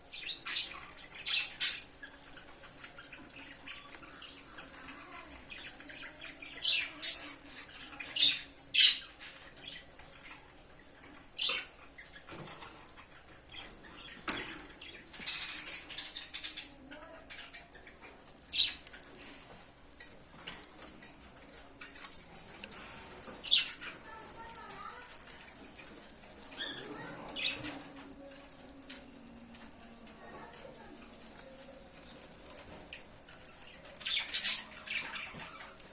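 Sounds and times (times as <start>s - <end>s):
lovebirds chirping: 0.0s - 35.9s
rustling and wing flapping: 0.0s - 35.9s.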